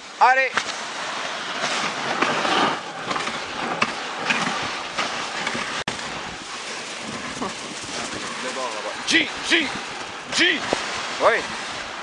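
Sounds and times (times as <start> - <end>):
snow crunching: 0.2 - 12.0
sled runners scraping over snow: 0.6 - 12.0.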